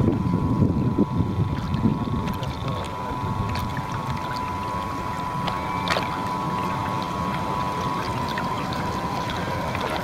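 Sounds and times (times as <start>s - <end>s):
motor whine: 0.0s - 10.0s
water churning against hull: 0.0s - 10.0s
faint splashing: 1.0s - 10.0s.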